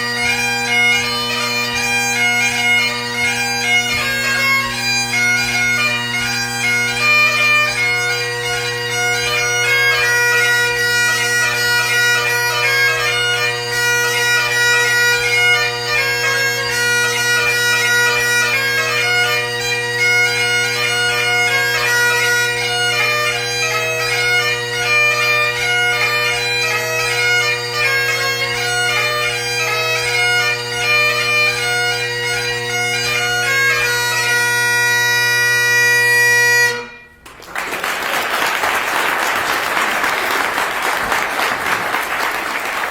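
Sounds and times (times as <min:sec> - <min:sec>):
bagpipe playing: 0:00.0 - 0:37.4, 0:38.2 - 0:42.9.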